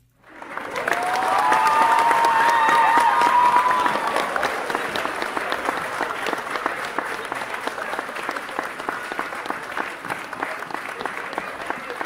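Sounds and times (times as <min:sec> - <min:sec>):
hands clapping: 0:00.0 - 0:12.0.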